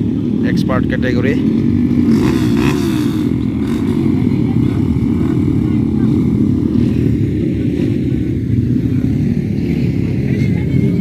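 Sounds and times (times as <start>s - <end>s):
dirt bike engines rumbling: 0.0s - 11.0s.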